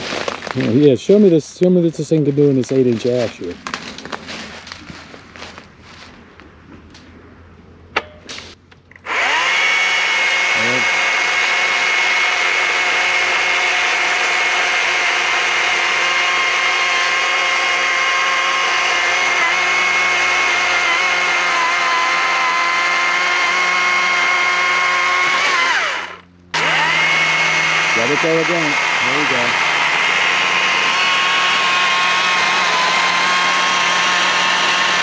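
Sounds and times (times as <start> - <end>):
battery chainsaw cutting log: 0.0 - 4.7, 9.0 - 35.0.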